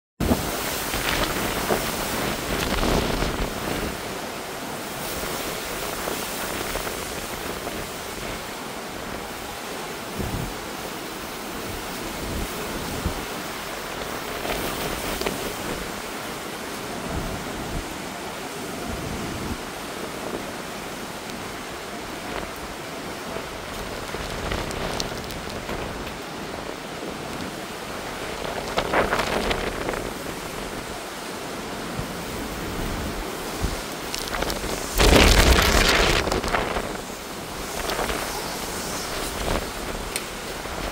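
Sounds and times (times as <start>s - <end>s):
heavy rain and gusting wind: 0.2s - 40.9s.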